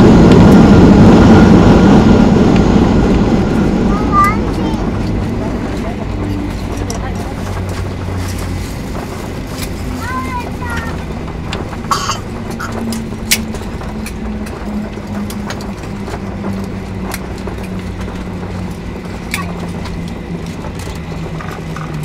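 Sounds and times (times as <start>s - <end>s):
airplane cabin rumble: 0.0s - 22.0s
sharp clicks and rattles: 2.5s - 22.0s.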